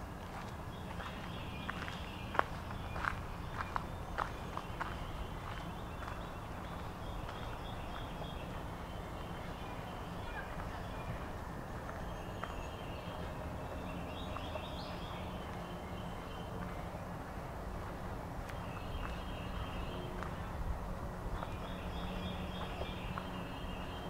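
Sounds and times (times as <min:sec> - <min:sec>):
low outdoor rumble: 0:00.0 - 0:24.0
songbirds singing: 0:00.3 - 0:24.0.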